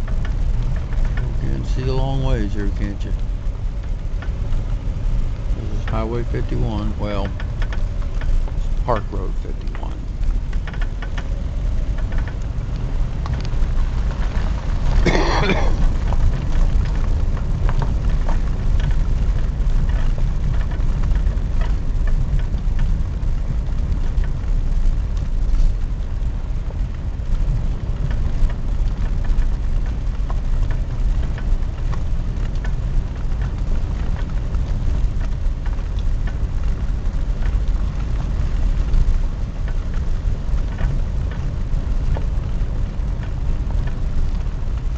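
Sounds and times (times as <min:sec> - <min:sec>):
small rattles and ticks: 0:00.0 - 0:44.9
vehicle tyre and engine rumble: 0:00.0 - 0:44.9.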